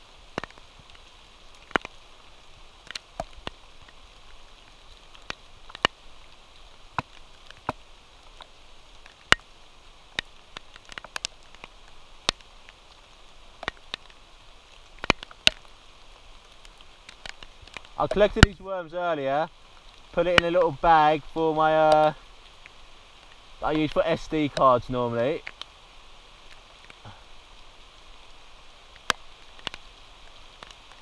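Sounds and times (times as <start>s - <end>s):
faint steady rain hiss: 0.0s - 31.0s
raindrops tapping: 0.0s - 31.0s.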